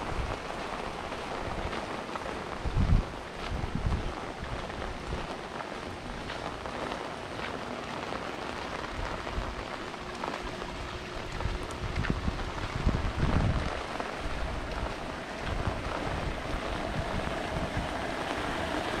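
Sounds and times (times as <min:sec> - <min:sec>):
raindrops ticking: 0:00.0 - 0:19.0
steady rain falling: 0:00.0 - 0:19.0.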